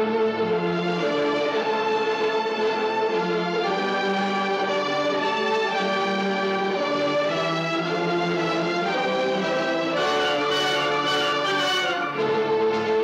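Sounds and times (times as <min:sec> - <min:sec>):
slow orchestral music: 0:00.0 - 0:13.0.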